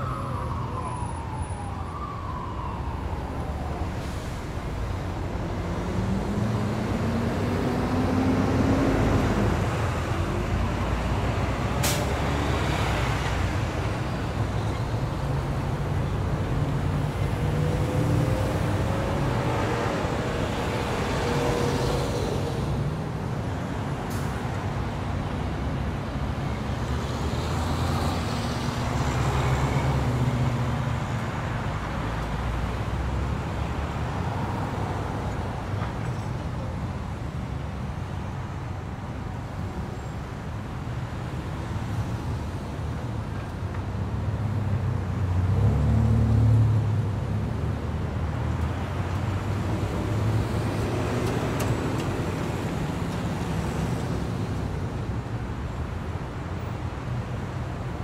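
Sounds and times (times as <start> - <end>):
passing vehicle engines rumbling: 0.0 - 58.0.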